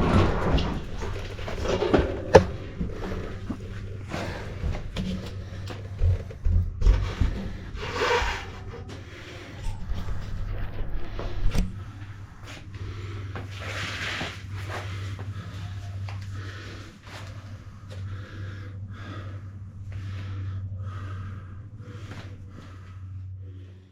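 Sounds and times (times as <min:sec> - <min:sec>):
steady low hum: 0:00.0 - 0:23.9
person breathing hard: 0:01.2 - 0:10.0, 0:11.1 - 0:23.9.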